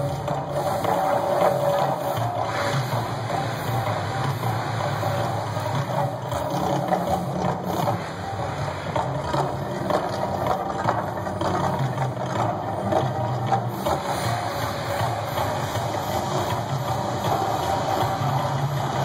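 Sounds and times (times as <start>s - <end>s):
fountains bursting: 0.0s - 19.0s
low soundtrack drone: 0.0s - 19.0s.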